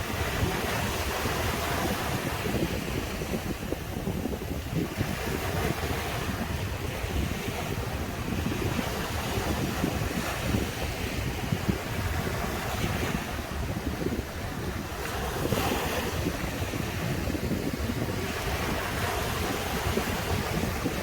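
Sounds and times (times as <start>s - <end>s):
waves breaking on a beach: 0.0s - 21.0s
wind buffeting microphone: 0.0s - 21.0s.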